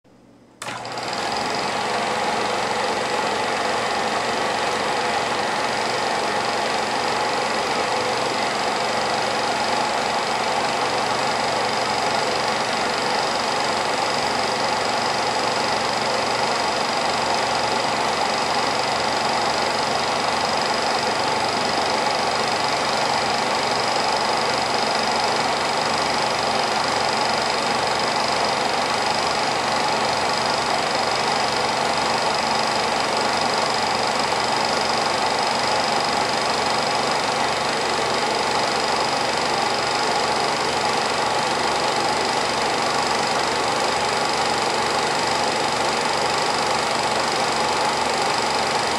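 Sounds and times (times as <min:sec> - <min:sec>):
film projector whirring: 0:00.1 - 0:48.9.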